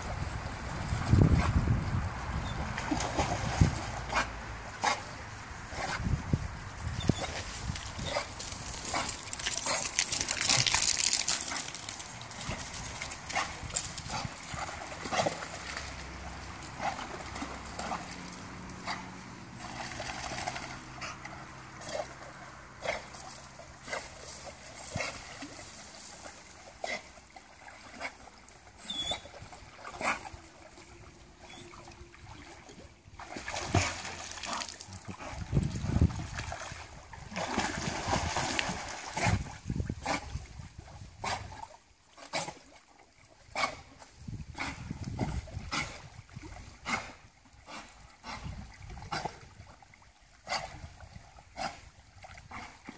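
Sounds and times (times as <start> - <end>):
water splashing and sloshing: 0.0 - 52.9.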